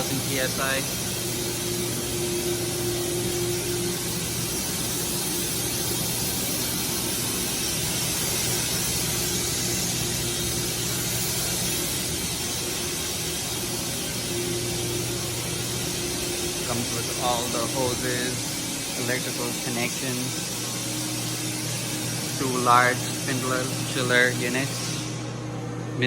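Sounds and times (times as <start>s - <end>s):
steady hiss: 0.0s - 25.5s.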